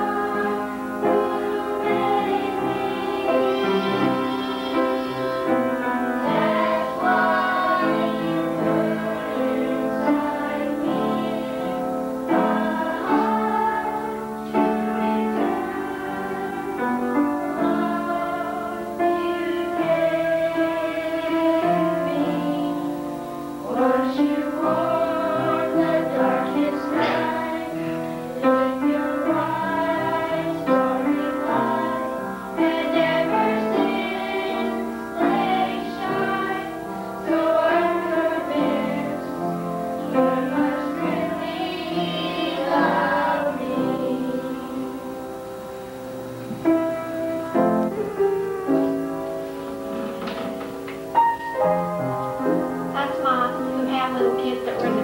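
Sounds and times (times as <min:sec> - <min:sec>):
children singing together: 0:00.0 - 0:51.1
instrumental accompaniment: 0:00.0 - 0:55.0.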